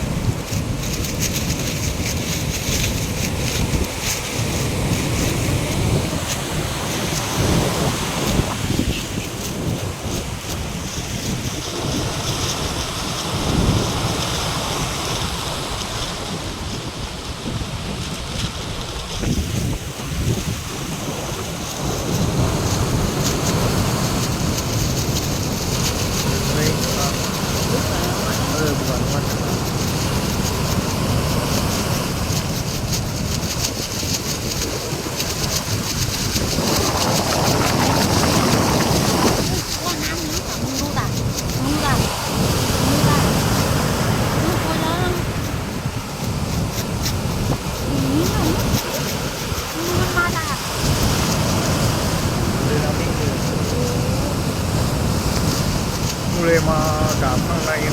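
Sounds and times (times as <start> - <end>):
heavy surf: 0.0 - 57.9
rain: 0.0 - 57.9
wind gusting on microphone: 0.0 - 57.9.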